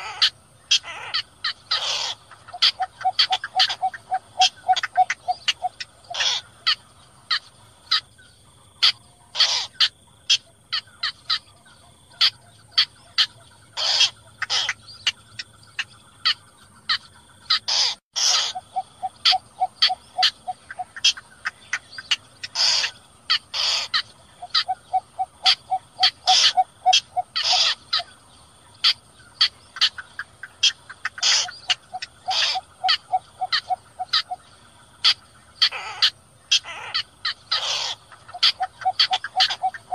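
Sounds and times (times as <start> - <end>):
bittern calls: 0.0 - 39.9.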